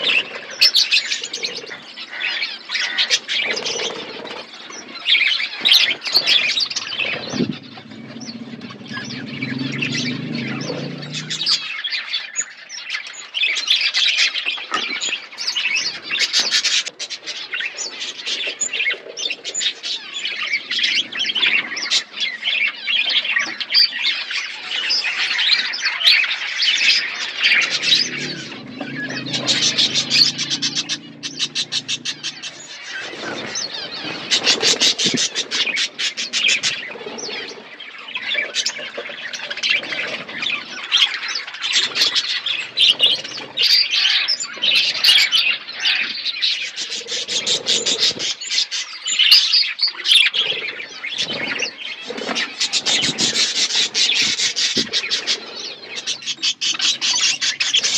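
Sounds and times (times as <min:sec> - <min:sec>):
budgies chirping and chattering: 0:00.0 - 0:57.9.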